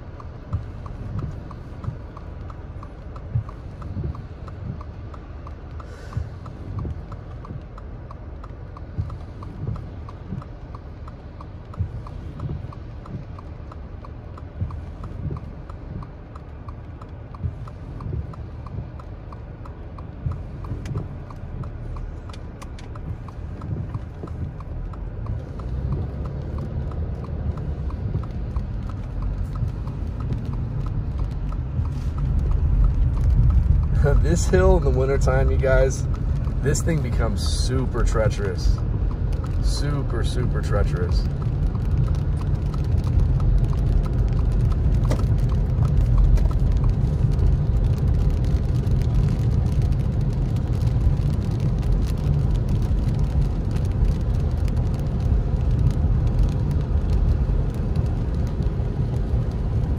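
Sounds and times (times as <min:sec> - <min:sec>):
engine and road rumble: 0:00.0 - 0:59.9
turn signal ticking: 0:00.0 - 0:59.9.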